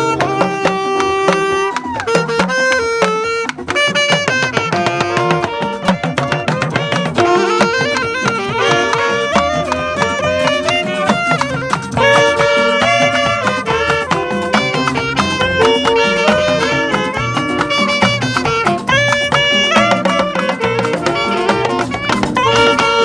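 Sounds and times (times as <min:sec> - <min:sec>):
musical accompaniment: 0:00.0 - 0:23.0
saxophone melody: 0:00.0 - 0:23.0.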